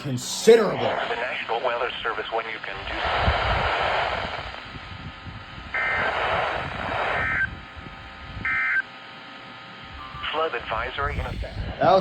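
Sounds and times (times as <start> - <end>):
radio hiss: 0.0 - 5.0, 5.6 - 12.0.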